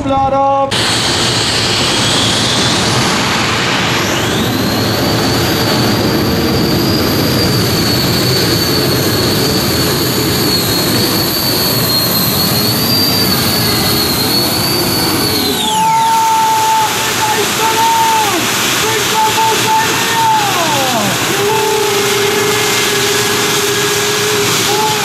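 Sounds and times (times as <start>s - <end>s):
high engine whine: 0.7s - 25.0s
loud tractor engine din: 0.7s - 25.0s.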